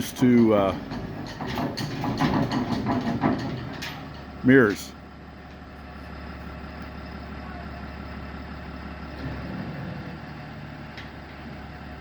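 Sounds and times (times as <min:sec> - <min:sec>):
dump truck engine running: 0:00.0 - 0:12.0.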